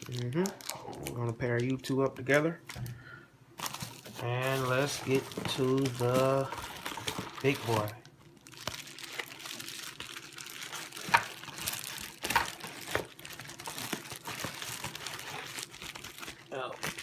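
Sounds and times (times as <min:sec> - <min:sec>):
packaging crinkling and rustling: 0:00.0 - 0:02.0, 0:03.6 - 0:17.0.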